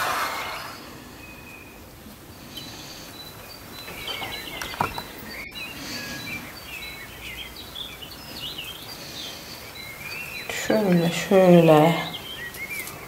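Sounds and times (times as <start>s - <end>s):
small birds chirping: 0.3s - 13.0s.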